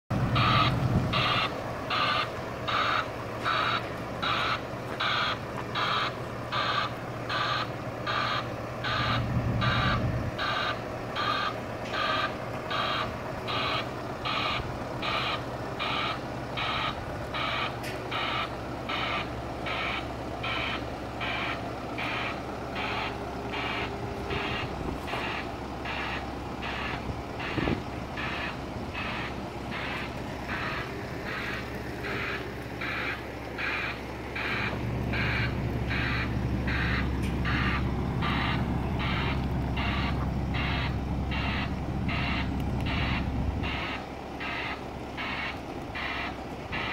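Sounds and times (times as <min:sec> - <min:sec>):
engine running low: 0:00.0 - 0:46.9
backup alarm beeping: 0:00.3 - 0:46.9.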